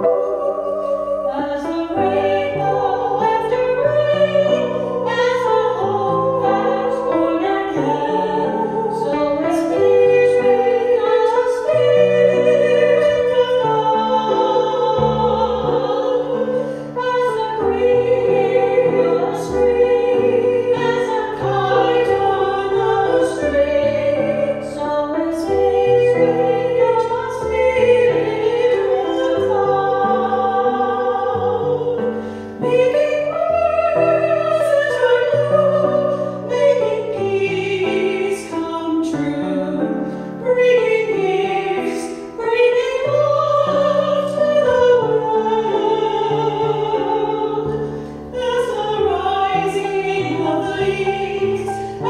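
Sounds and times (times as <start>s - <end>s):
keyboard accompaniment: 0.0s - 52.0s
two women singing duet: 0.0s - 52.0s.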